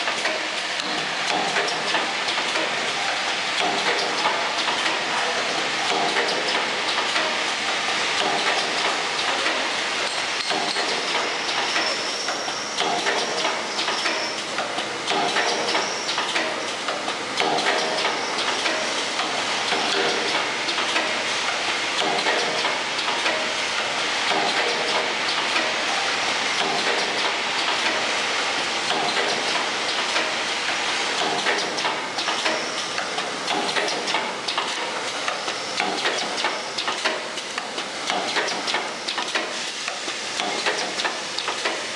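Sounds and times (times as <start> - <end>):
pneumatic machine clacking and hissing: 0.0 - 41.9.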